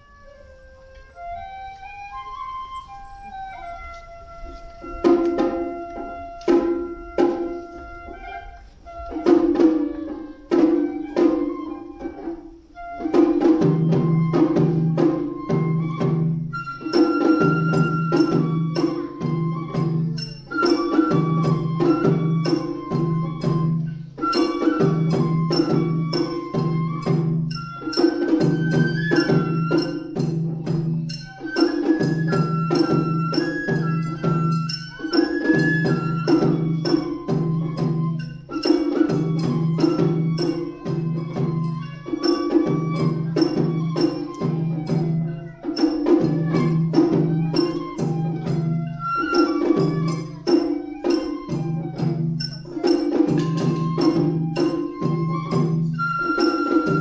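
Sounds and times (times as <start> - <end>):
bamboo flute melody: 0.0 - 57.0
rapid small drum strokes: 2.8 - 57.0
large drum: 4.4 - 57.0.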